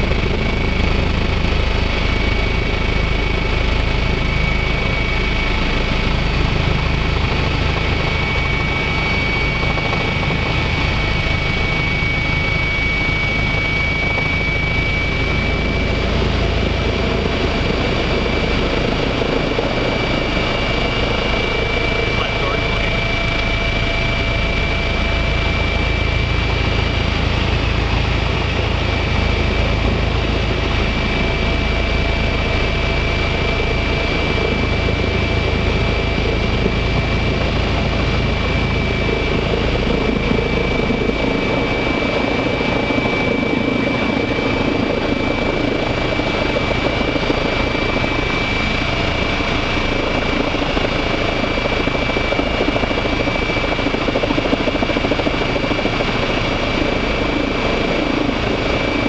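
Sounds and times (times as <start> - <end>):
helicopter rotor and engine noise: 0.0 - 59.0
helicopter turbine whine: 0.0 - 59.0.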